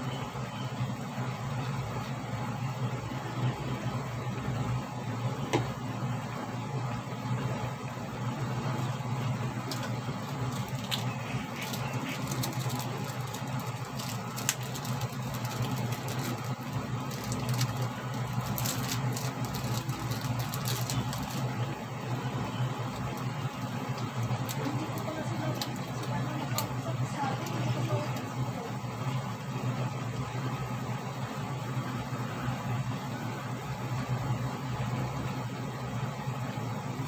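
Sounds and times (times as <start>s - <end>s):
steady low hum: 0.0s - 37.0s
liquid bubbling in a pot: 0.1s - 25.2s, 25.8s - 37.0s.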